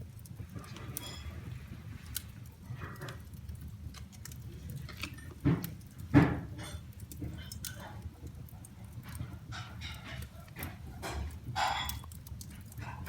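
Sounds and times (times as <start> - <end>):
fire crackles and pops: 0.0 - 13.0
wood fire burning: 0.0 - 13.0.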